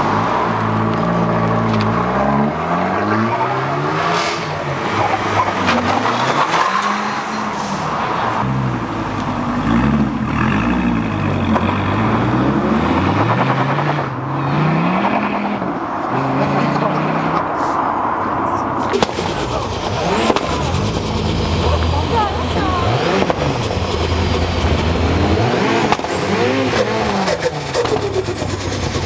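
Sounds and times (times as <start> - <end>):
car engines revving accelerating: 0.0 - 29.0.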